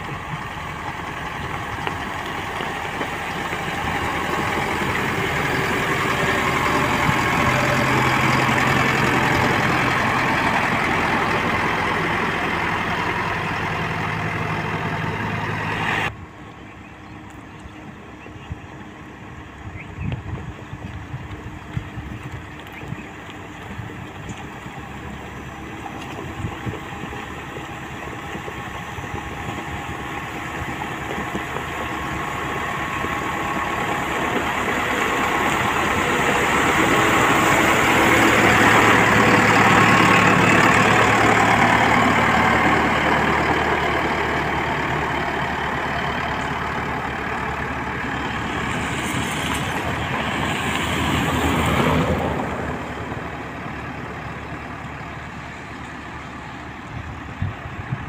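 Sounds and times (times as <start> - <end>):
diesel engine running: 0.0 - 58.0
gravel grinding under tyres: 0.0 - 58.0.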